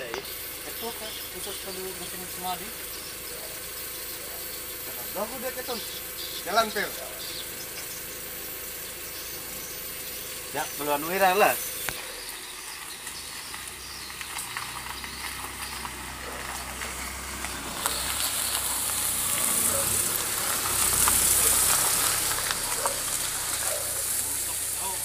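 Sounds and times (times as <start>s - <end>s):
car engine rumble: 0.0s - 25.0s
tyres crunching on gravel: 0.0s - 25.0s.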